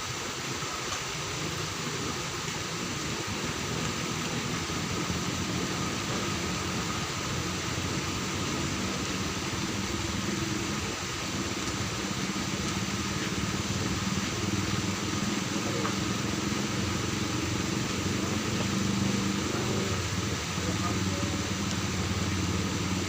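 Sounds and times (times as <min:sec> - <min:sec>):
constant hiss: 0:00.0 - 0:23.0.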